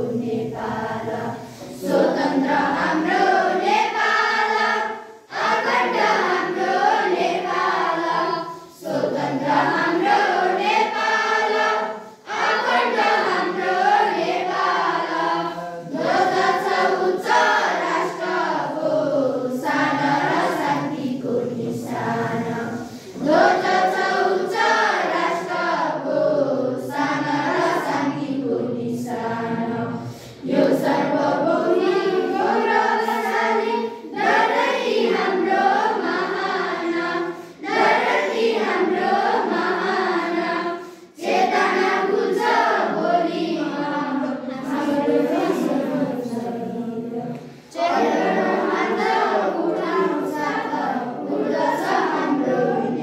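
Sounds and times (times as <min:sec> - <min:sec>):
children singing in unison: 0:00.0 - 0:53.0.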